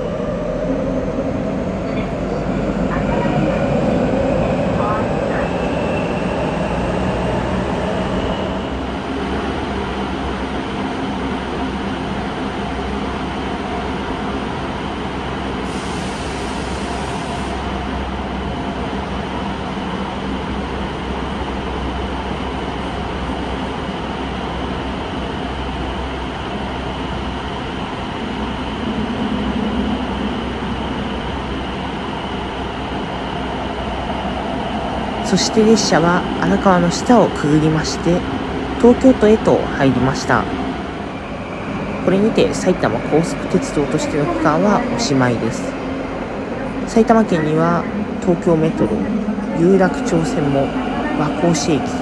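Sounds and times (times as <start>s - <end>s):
subway train rumble: 0.0s - 52.0s.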